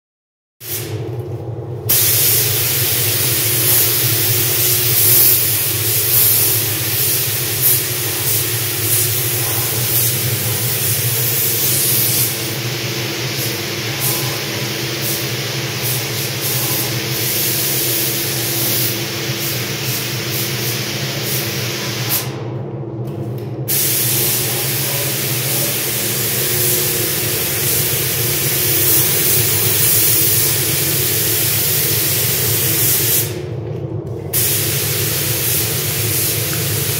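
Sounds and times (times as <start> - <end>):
steady low hum: 0.7 - 36.9
paint spray gun hissing: 1.9 - 22.3, 23.7 - 33.4, 34.4 - 36.9.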